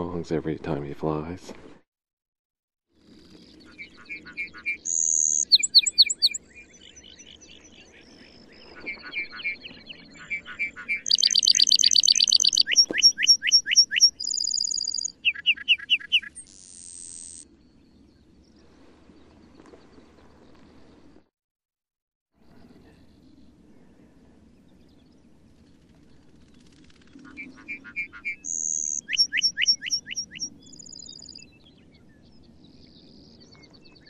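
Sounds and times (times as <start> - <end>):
bird song with trills: 3.1 - 21.0, 22.7 - 34.0.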